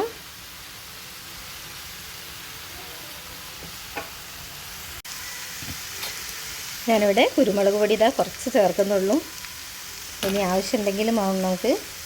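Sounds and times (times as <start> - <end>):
mushrooms sizzling in butter: 0.0 - 12.0.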